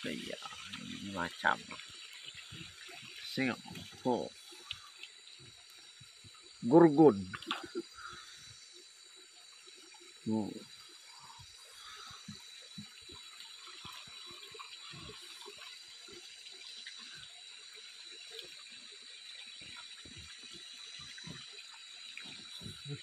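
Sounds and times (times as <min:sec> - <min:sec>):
water dripping and splashing: 0:00.0 - 0:23.0.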